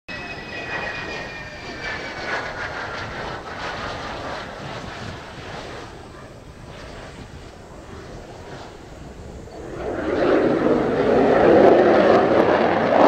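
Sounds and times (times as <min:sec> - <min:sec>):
jet engine whine passing low: 0:00.1 - 0:13.0
jet rumble: 0:00.1 - 0:13.0.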